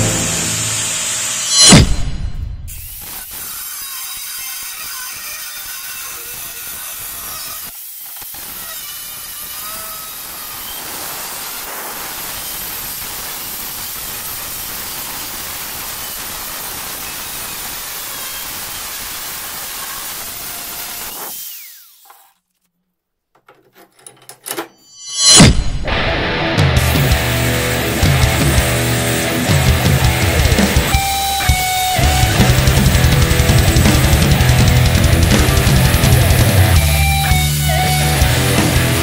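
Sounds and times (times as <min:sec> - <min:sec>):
angle grinder cutting steel: 0:00.0 - 0:01.9, 0:02.7 - 0:22.4, 0:26.8 - 0:39.0.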